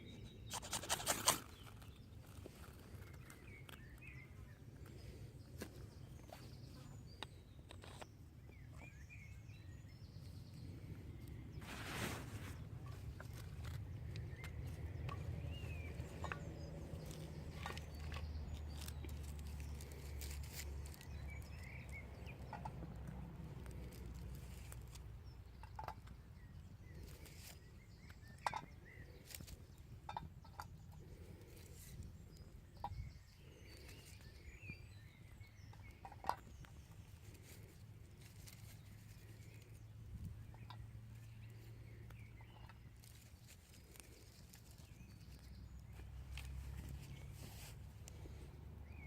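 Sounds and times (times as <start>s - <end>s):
thin bird calls: 0.0s - 49.0s
low wind-like rumble: 8.4s - 49.0s.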